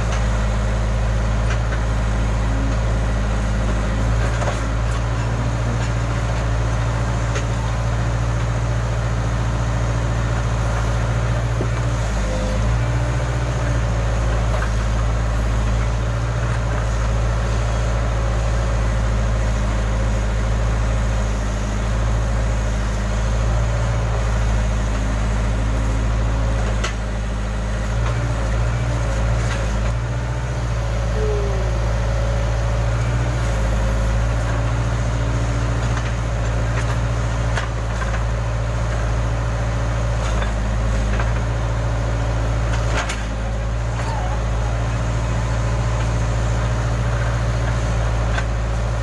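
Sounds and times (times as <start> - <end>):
backhoe diesel engine running: 0.0 - 49.0.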